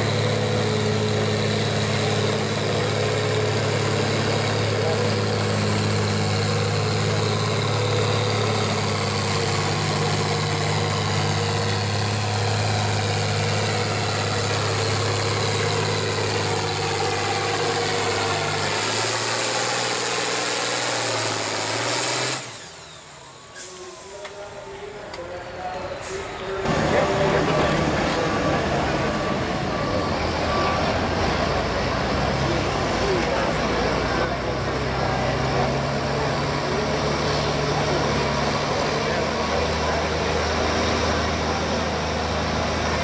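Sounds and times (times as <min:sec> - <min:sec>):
tractor engine labouring: 0:00.0 - 0:43.0.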